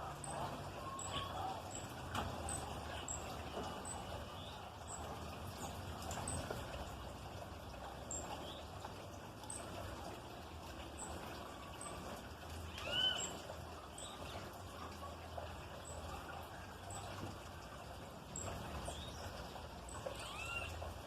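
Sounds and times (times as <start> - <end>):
birds chipping: 0.0 - 21.0.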